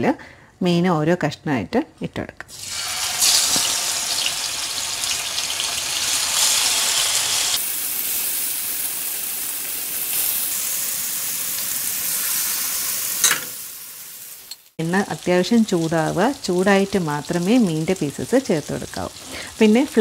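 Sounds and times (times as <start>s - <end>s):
fish sizzling in oil: 2.5s - 20.0s.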